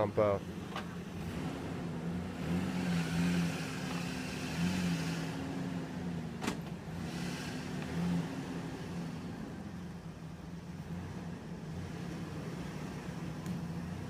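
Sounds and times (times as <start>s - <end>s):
vehicle engine revving: 0.5s - 14.0s.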